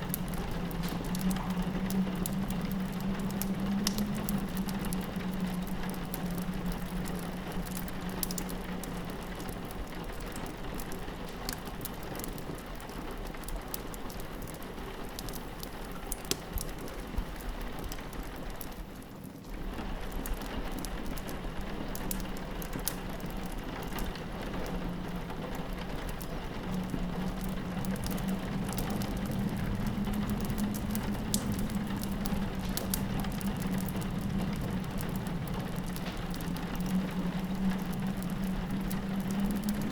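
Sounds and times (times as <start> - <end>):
rain pattering on a window: 0.0 - 39.9
wood fire crackling: 0.0 - 39.9.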